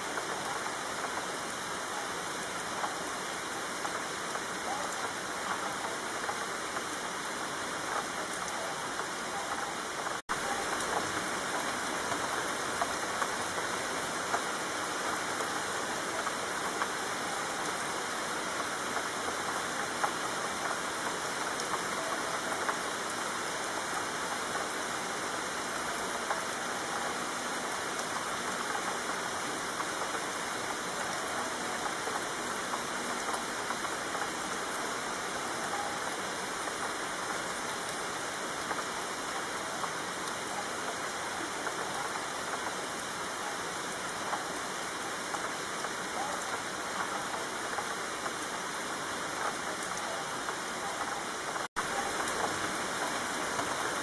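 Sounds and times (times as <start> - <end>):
rain drops ticking: 0.0 - 54.0
steady rain falling: 0.0 - 54.0.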